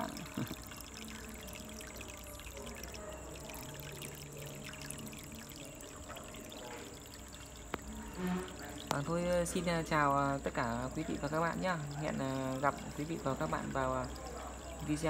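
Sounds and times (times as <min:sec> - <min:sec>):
water pouring and trickling: 0:00.0 - 0:15.0.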